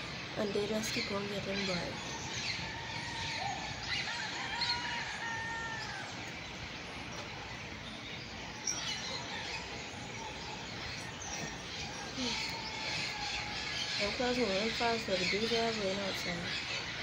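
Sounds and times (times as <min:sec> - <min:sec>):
birds chirping: 0:00.0 - 0:17.0
outdoor background hiss: 0:00.0 - 0:17.0.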